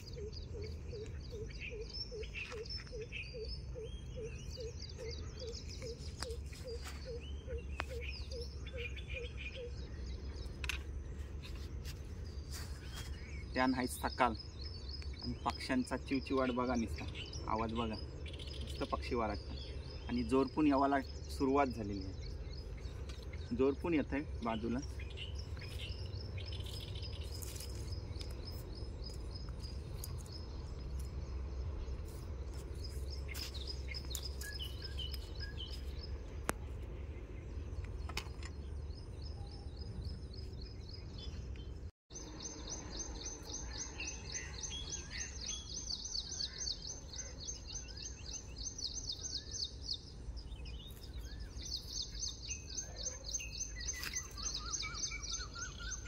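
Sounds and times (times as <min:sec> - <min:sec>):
small birds trilling and whistling: 0:00.0 - 0:56.0.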